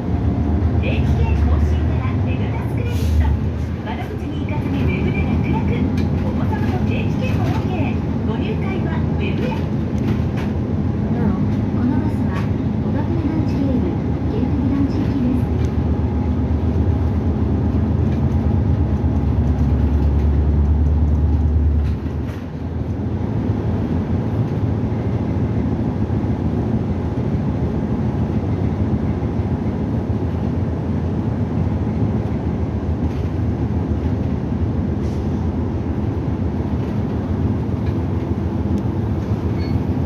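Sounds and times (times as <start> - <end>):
bus engine droning: 0.0 - 40.0
road noise: 0.0 - 40.0.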